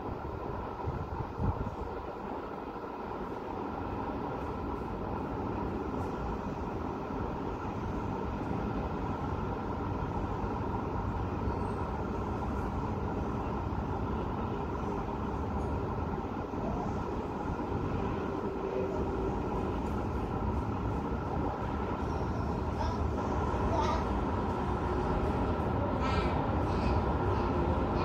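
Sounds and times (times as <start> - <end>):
city traffic hum: 0.0 - 28.0.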